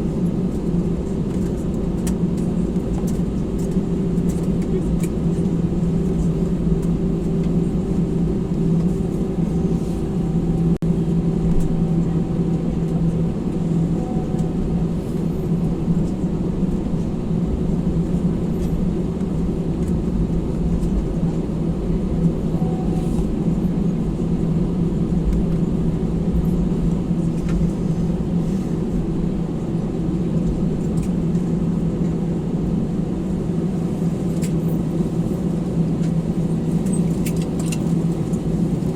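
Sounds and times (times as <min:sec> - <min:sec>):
aircraft cabin rumble and hum: 0:00.0 - 0:38.9.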